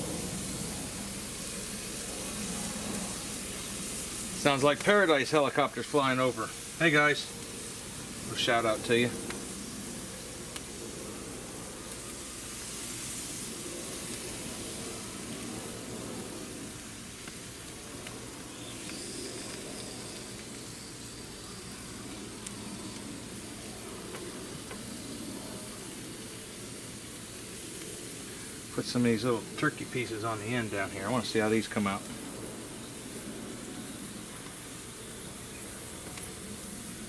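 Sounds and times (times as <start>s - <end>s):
meat sizzling on a grill: 0.0s - 37.0s.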